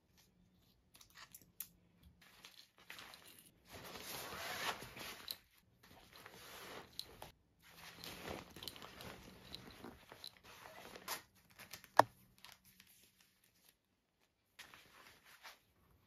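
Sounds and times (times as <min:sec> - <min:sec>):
cloth and paper rustling: 0:02.2 - 0:16.0.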